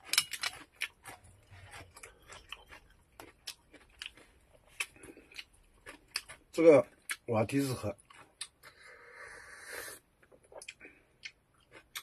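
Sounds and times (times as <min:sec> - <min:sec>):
person chewing with mouth clicks: 0:00.0 - 0:07.3, 0:07.9 - 0:08.9, 0:10.2 - 0:12.0.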